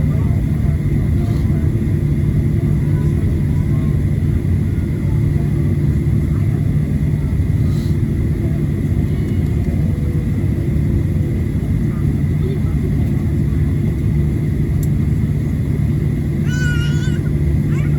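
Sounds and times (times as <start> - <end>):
airplane cabin engine drone: 0.0 - 17.9
high engine whine: 0.0 - 17.9.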